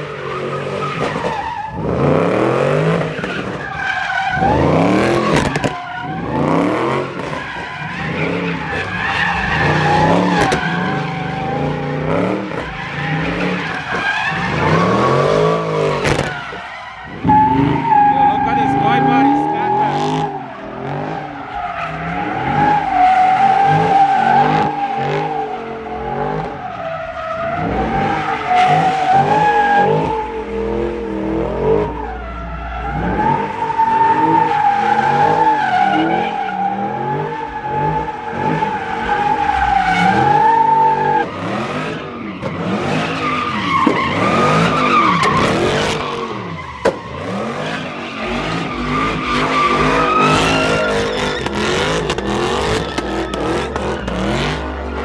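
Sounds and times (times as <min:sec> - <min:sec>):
car engine revving: 0:00.0 - 0:55.0
tyres screeching: 0:00.0 - 0:55.0.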